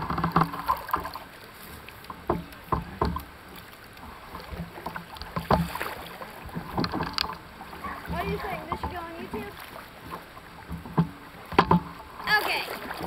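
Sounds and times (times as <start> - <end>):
paddle knocks on canoe: 0.0 - 1.3, 2.1 - 13.0
water wash from paddling: 0.0 - 13.0.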